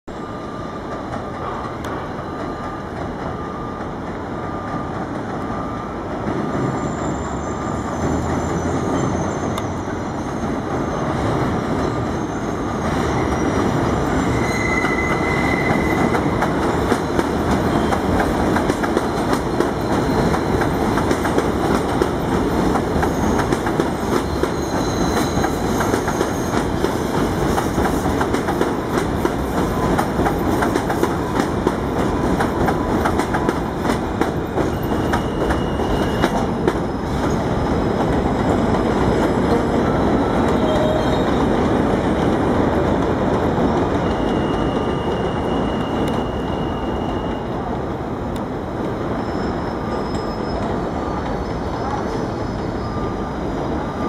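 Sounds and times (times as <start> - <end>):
high squeal of train: 0.1 - 54.0
subway train on elevated track: 0.1 - 54.0.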